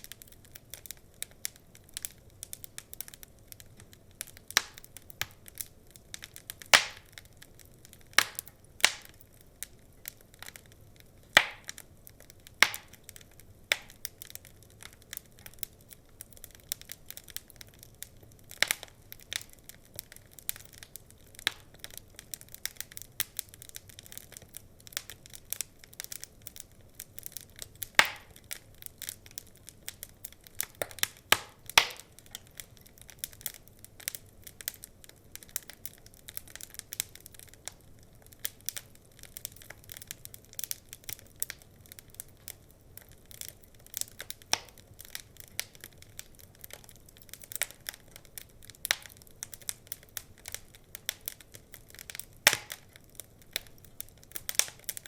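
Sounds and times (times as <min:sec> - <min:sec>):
faint low hiss: 0:00.0 - 0:55.0
wood fire crackling and popping: 0:00.0 - 0:55.0.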